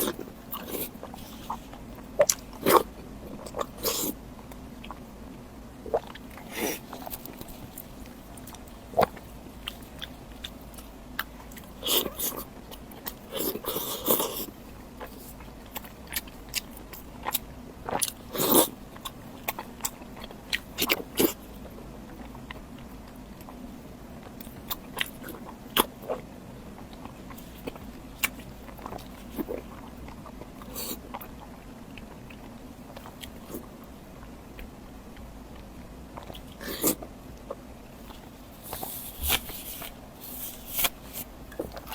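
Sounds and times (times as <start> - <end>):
chewing with mouth smacks: 5.8 - 41.9.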